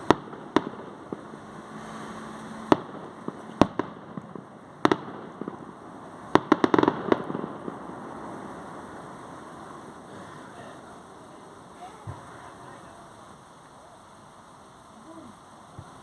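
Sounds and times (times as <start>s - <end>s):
firework bangs: 0.0s - 14.3s
rapid crackling firework bangs: 0.0s - 14.3s.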